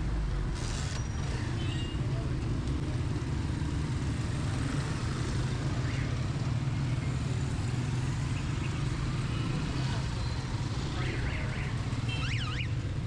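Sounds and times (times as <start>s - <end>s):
motor vehicle engines humming: 0.0s - 13.0s
traffic noise: 0.0s - 13.0s.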